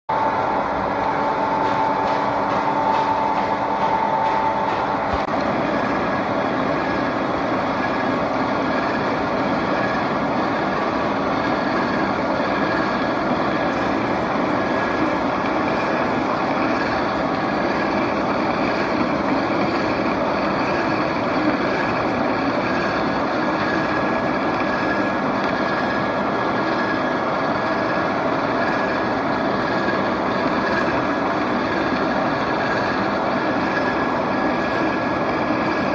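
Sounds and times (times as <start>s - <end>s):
milling machine cutting: 0.6s - 35.9s.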